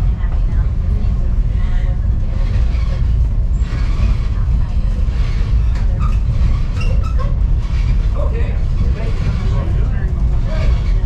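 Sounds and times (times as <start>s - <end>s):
railcar low rumble: 0.0s - 11.0s.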